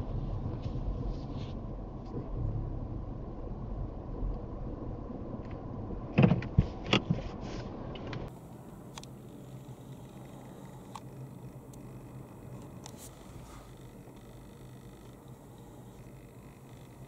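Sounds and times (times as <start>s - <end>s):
car rumbling from inside cabin: 0.0s - 17.0s.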